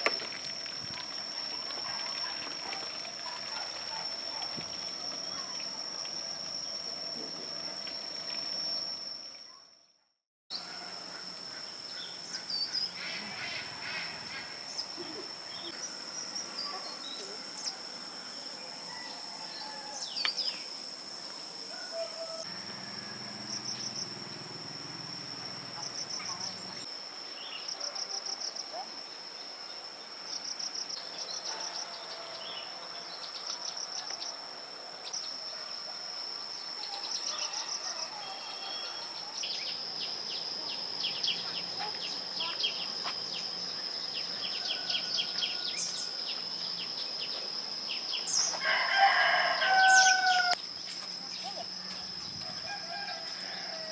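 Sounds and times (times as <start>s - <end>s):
insects droning: 0.0s - 53.9s
pulsed insect trills: 0.0s - 53.9s.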